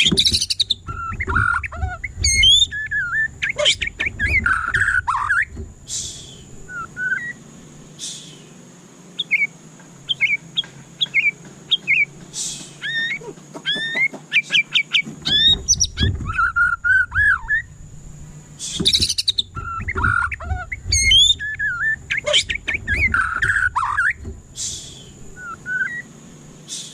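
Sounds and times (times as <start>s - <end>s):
bird harsh rasps: 0.0s - 7.4s, 8.0s - 8.6s, 9.2s - 17.7s, 18.6s - 26.1s, 26.7s - 26.9s
bird singing whistled notes: 0.0s - 7.4s, 9.2s - 17.8s, 18.6s - 26.9s.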